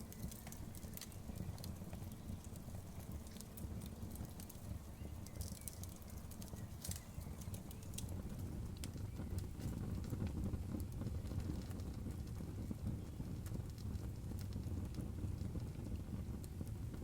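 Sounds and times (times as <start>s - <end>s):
fire crackling and popping: 0.0s - 17.0s
rumble of bonfire flames: 0.0s - 17.0s.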